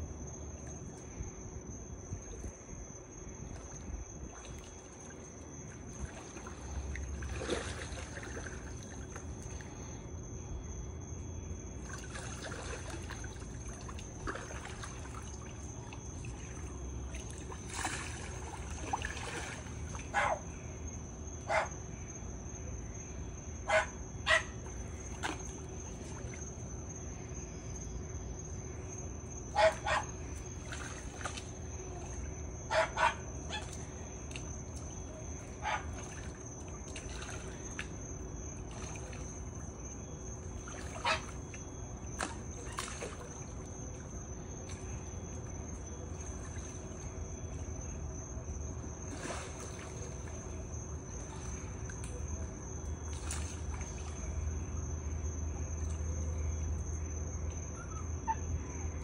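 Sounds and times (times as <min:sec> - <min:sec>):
moving water: 0:00.0 - 0:59.0
wading splashes in water: 0:00.1 - 0:59.0.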